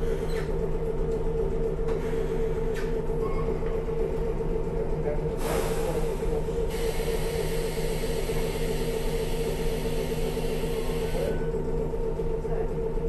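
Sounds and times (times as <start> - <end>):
streetcar mechanical hum: 0.0 - 13.0.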